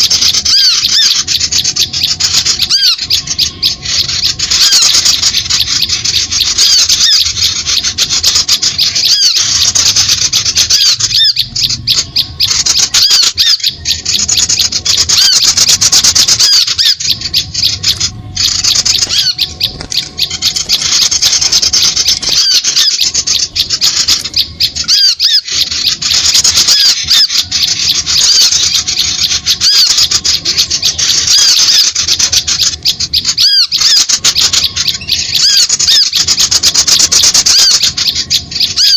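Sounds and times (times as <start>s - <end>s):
flock of small birds chattering: 0.0s - 38.9s.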